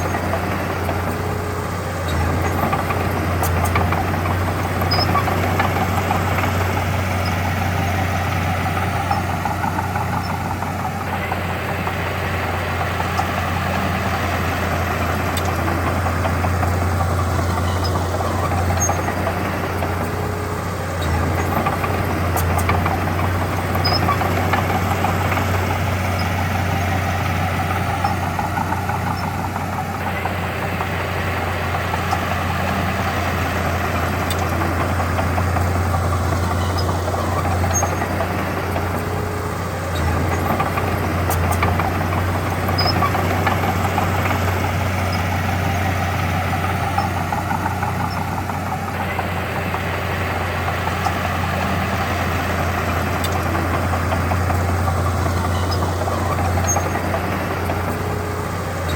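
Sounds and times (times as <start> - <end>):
heavy machinery diesel engine drone: 0.0 - 58.9.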